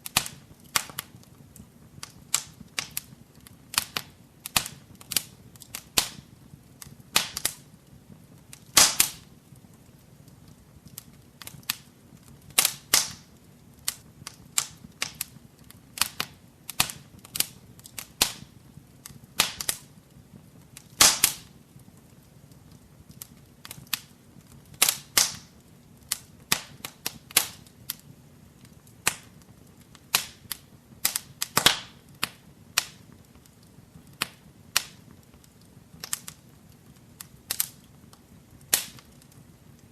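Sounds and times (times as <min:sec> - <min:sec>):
faint low hiss: 0:00.0 - 0:39.9
wood fire crackling and popping: 0:00.0 - 0:39.9.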